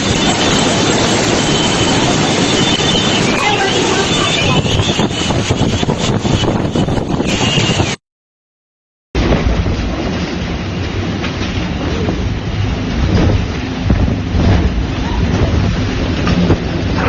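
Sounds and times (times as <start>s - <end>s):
strong wind on microphone: 0.0s - 8.0s, 9.2s - 17.0s.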